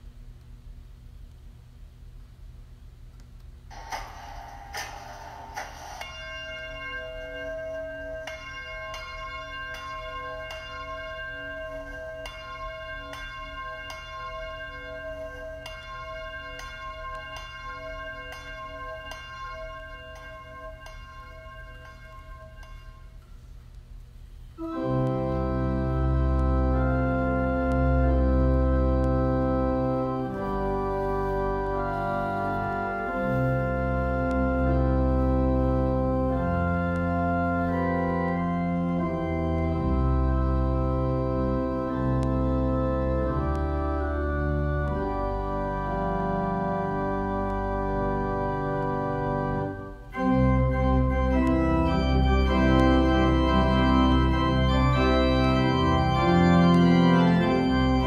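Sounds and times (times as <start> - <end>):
organ playing sustained chords: 3.7 - 23.7, 24.3 - 58.0.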